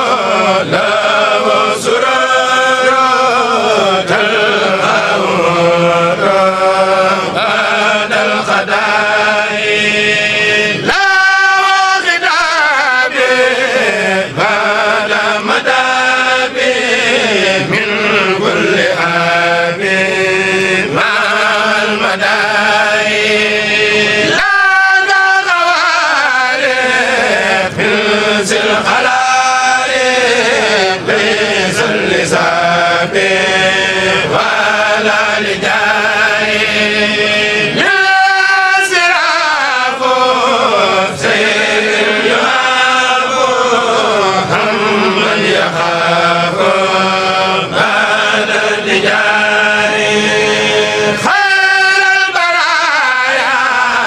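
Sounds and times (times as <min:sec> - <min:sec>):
group chanting religious song: 0:00.0 - 0:54.0.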